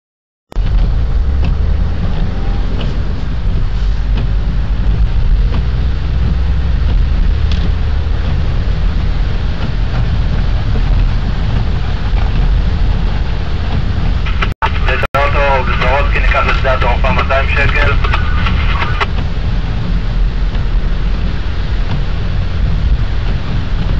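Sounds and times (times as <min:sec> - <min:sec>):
car engine rumble from inside: 0:00.6 - 0:23.9.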